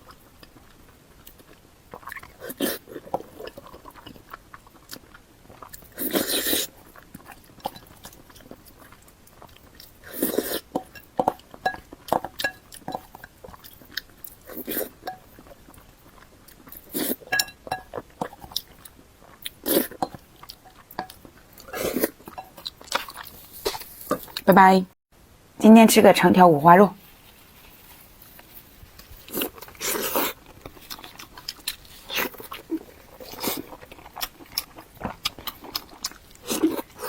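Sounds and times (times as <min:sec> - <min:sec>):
chewing: 0:00.0 - 0:24.5, 0:27.0 - 0:37.0.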